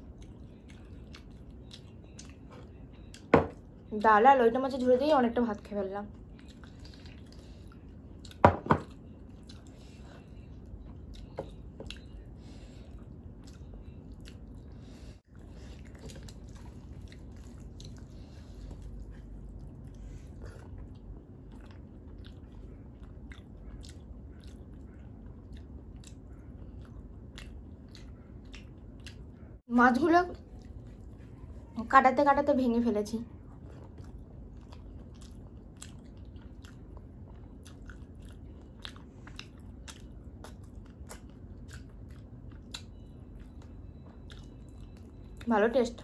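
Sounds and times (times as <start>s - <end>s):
chewing with wet clicks: 0.0s - 4.2s, 6.1s - 14.8s, 15.4s - 29.6s, 33.4s - 46.0s.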